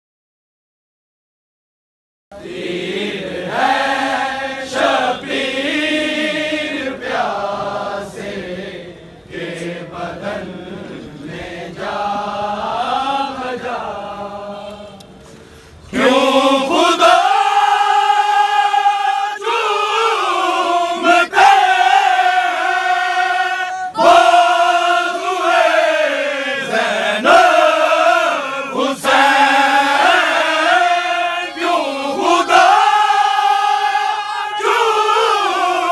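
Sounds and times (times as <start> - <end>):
men chanting a lament: 2.4 - 15.0, 15.9 - 35.9.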